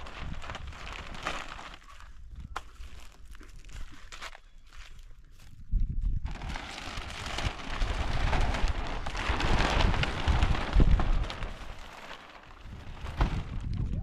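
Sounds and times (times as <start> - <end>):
plastic sheeting crinkling: 0.0 - 5.0, 6.1 - 14.0.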